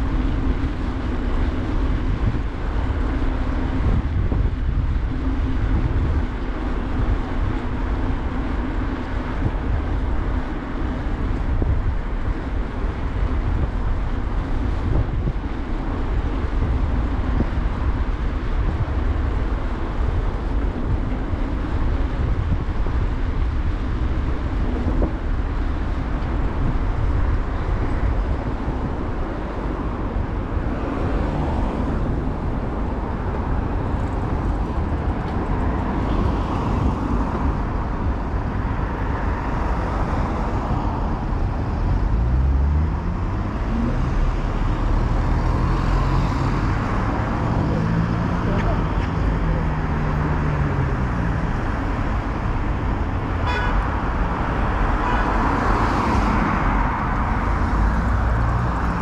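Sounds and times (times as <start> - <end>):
car traffic: 0.0 - 59.0
tyres on asphalt: 0.0 - 59.0
wind on microphone: 0.0 - 59.0.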